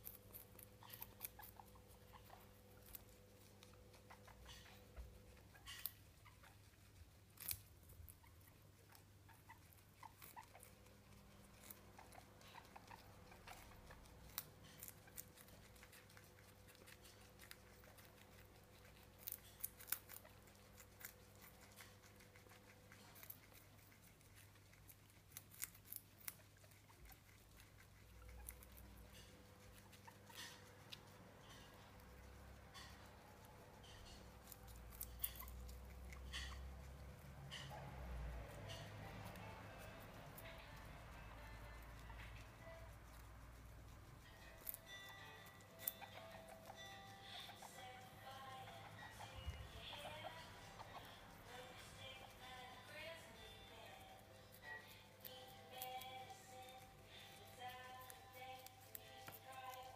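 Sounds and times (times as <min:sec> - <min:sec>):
faint steady hum: 0:00.0 - 0:59.9
guinea pigs crunching carrot: 0:00.0 - 0:59.9.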